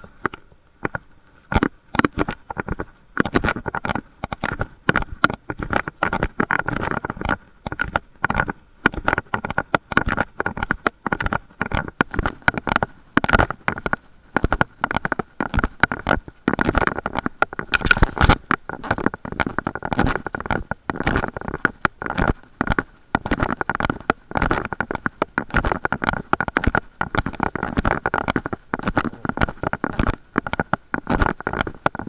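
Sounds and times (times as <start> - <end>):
crackling microphone noise: 0.0 - 32.0.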